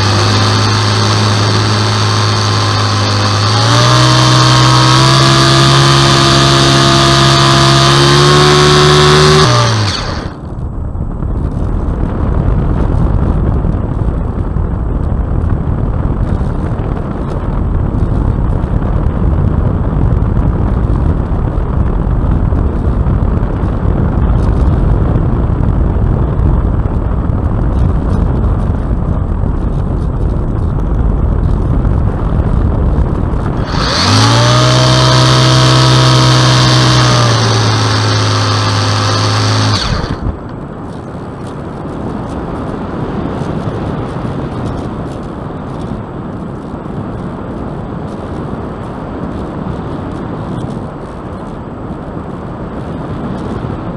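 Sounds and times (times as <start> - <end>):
aircraft engine buzzing: 0.0 - 21.4, 22.0 - 47.3
wind rushing over microphone: 0.0 - 53.9.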